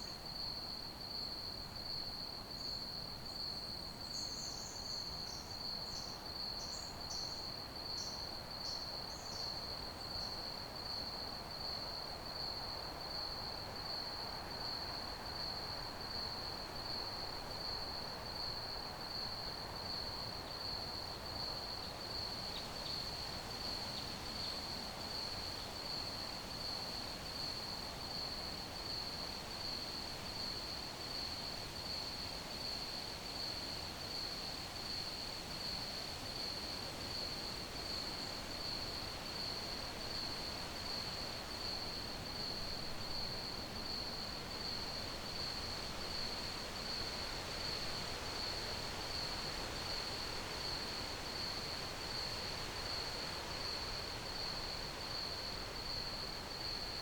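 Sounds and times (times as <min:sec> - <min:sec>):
crickets chirping: 0:02.3 - 0:57.0.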